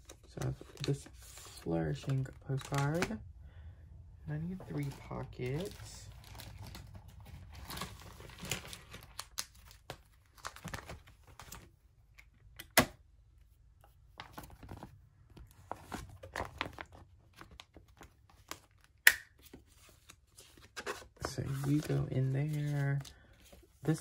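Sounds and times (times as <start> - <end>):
plastic sleeves crinkling: 0.0 - 3.2, 4.3 - 11.7, 14.1 - 24.0.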